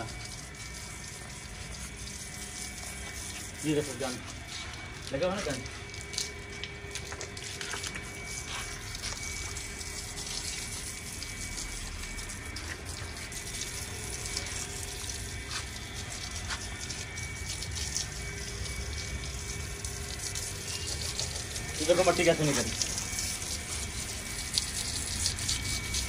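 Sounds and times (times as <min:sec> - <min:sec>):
hose water splashing: 0:00.0 - 0:26.0.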